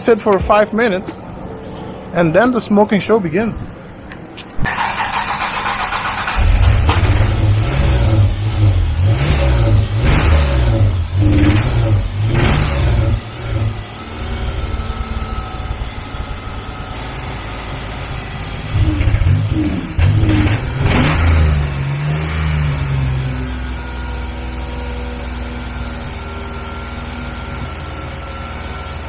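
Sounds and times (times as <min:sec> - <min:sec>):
car engine revving unevenly: 0:04.8 - 0:29.0.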